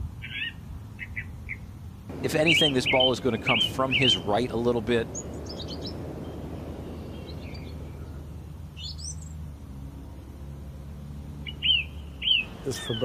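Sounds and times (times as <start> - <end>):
low outdoor rumble: 0.0 - 13.0
small birds chirping: 0.2 - 13.0.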